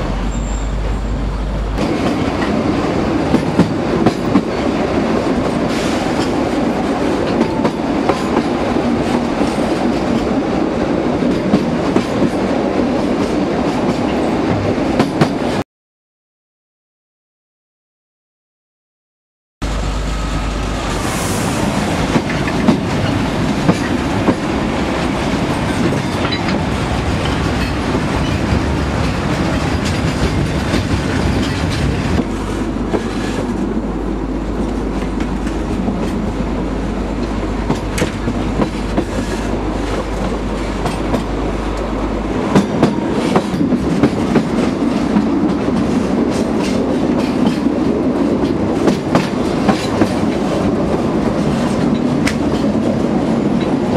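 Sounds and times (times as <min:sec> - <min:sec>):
train running on track: 0:00.0 - 0:15.6, 0:19.6 - 0:53.9.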